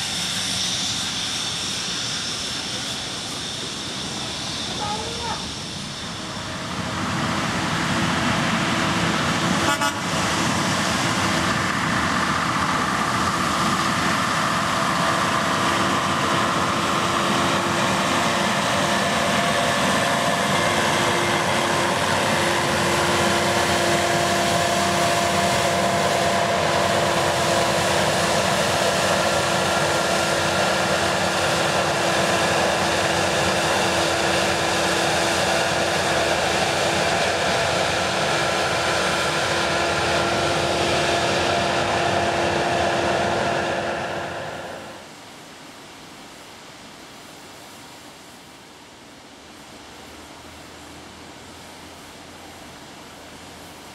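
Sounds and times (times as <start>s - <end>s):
diesel locomotive engine drone: 0.0s - 53.9s.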